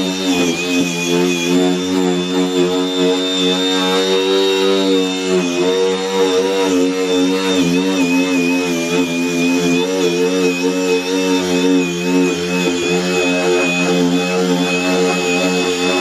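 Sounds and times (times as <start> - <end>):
angle grinder whining: 0.0 - 16.0.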